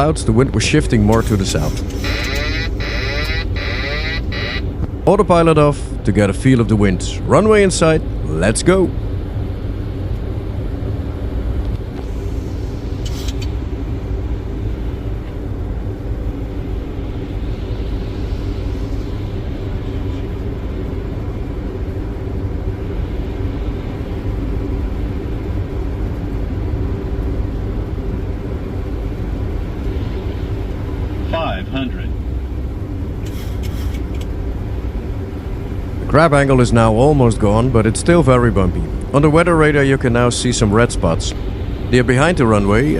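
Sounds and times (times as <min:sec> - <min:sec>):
airflow and engine rumble: 0:00.0 - 0:42.9
constant low hum: 0:00.0 - 0:42.9.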